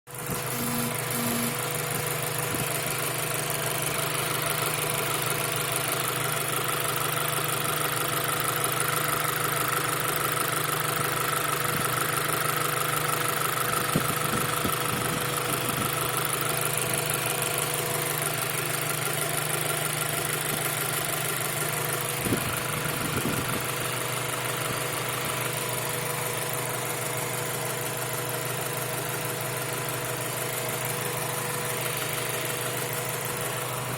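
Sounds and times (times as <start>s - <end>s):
car engine running with ticking: 0.1s - 33.9s.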